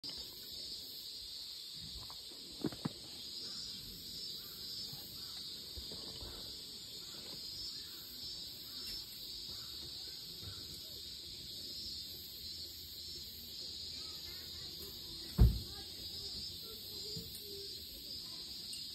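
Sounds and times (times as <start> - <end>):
steady high hiss: 0.0 - 18.9.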